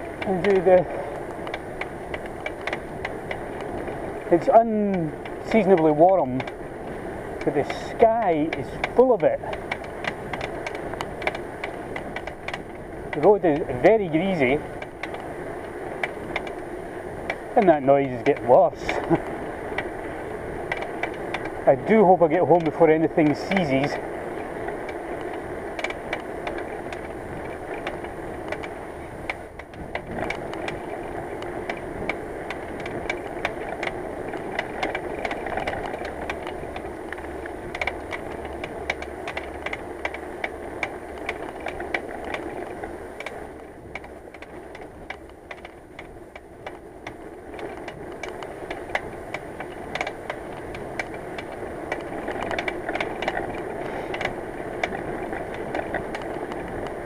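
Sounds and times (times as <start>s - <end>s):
bicycle hub clicking and rattling: 0.0s - 57.0s
road and wind noise: 0.0s - 57.0s.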